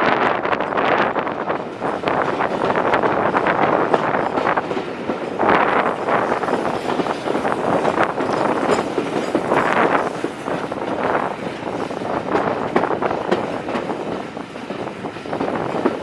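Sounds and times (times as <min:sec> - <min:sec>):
train wheels clattering on track: 0:00.1 - 0:16.0.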